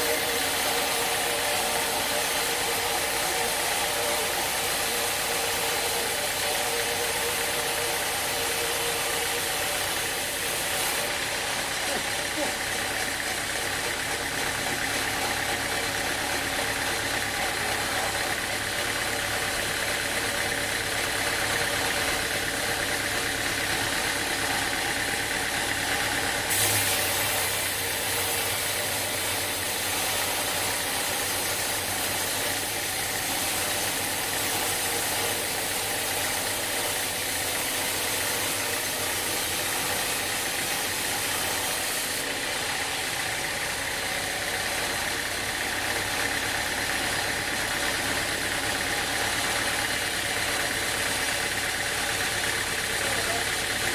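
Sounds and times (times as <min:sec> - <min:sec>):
sawmill machinery droning: 0:00.0 - 0:53.9.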